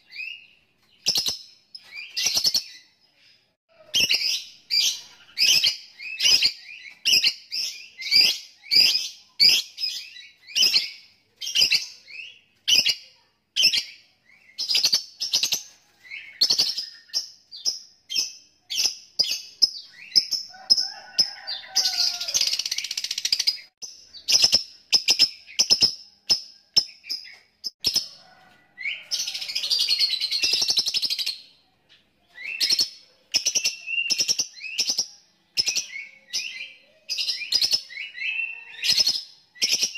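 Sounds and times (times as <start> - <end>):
lovebird chirping: 0.0 - 28.2, 28.9 - 39.9.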